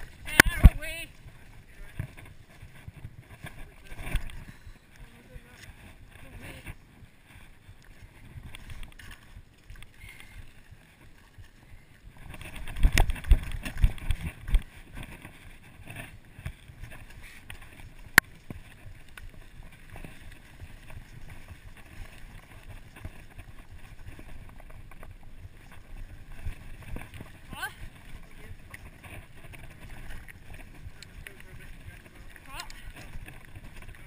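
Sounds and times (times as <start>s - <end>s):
tyres on loose gravel: 0.0s - 34.0s
wind on microphone: 0.0s - 34.0s.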